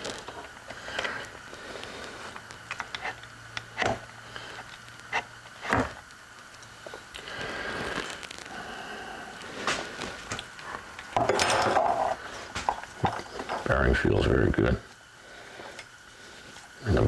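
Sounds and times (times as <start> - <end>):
steady noise: 0.0 - 17.0.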